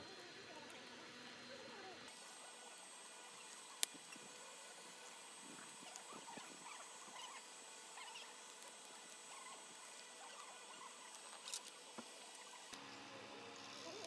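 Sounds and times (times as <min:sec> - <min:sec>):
meat sizzling on grill: 0:02.1 - 0:14.0.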